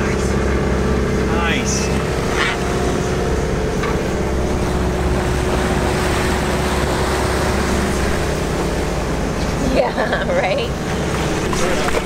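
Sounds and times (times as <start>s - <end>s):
boat engine droning: 0.0s - 12.0s
rushing water: 0.0s - 12.0s
wind: 0.0s - 12.0s.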